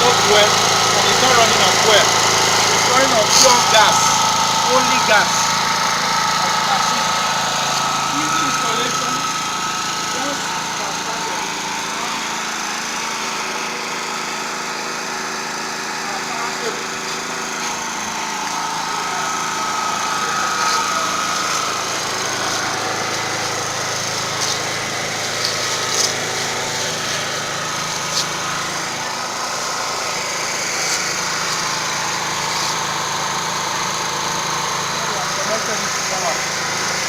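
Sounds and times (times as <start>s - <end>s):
generator engine hum: 0.0s - 37.0s.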